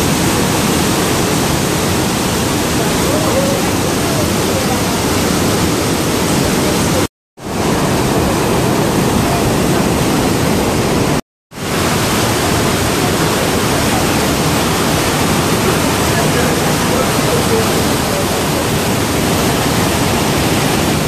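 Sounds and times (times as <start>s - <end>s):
waterfall roar: 0.0s - 21.0s.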